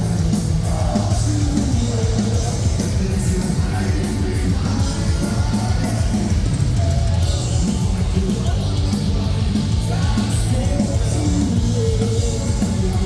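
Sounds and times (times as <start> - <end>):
live metal band playing: 0.0 - 13.0
singer yelling: 0.0 - 13.0.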